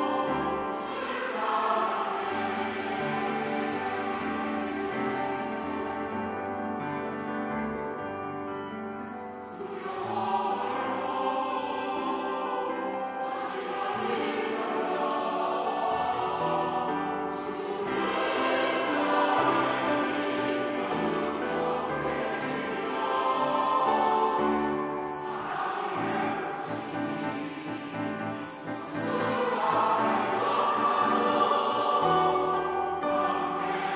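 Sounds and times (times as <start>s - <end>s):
choir singing in harmony: 0.0s - 33.9s.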